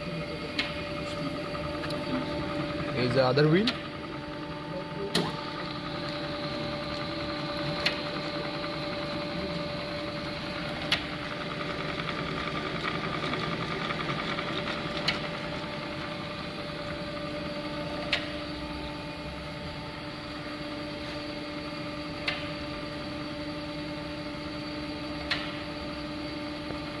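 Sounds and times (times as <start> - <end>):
grinder motor hum and whine: 0.0 - 27.0.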